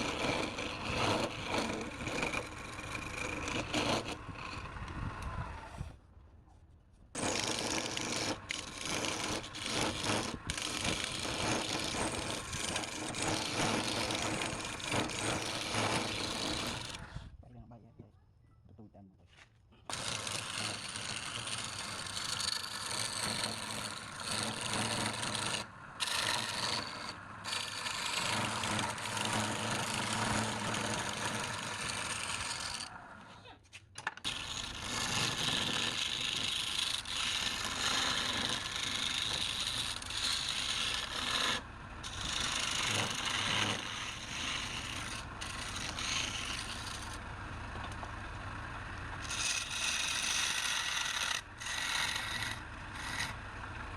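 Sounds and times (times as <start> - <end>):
tool scraping spinning wood: 0.0 - 6.0, 7.2 - 17.4, 19.8 - 53.9.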